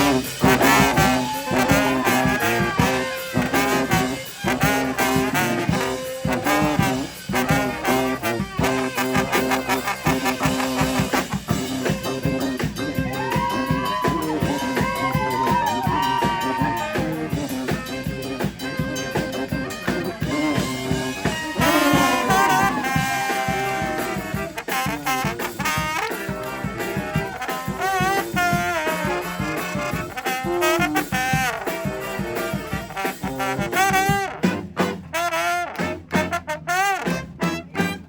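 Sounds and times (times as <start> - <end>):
steady percussion beat: 0.0 - 35.2
trumpets and trombones melody: 0.0 - 38.0.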